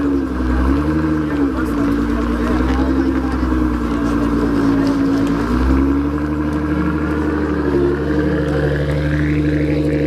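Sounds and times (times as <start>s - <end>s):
car exhaust at low revs: 0.0s - 10.0s.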